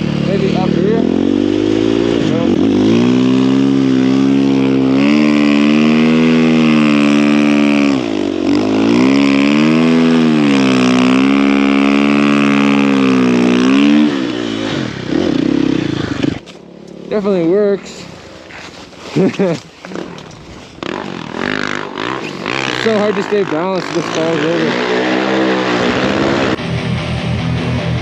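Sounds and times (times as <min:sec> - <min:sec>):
snow bike engine revving: 0:00.0 - 0:28.0.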